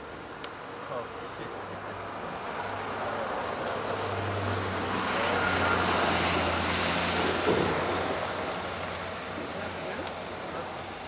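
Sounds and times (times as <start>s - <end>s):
vehicle passing: 1.0s - 11.0s.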